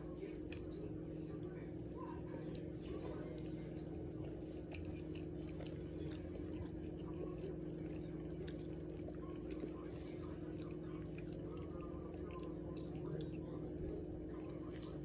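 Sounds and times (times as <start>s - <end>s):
steady low hum: 0.0s - 15.0s
close chewing: 0.1s - 15.0s.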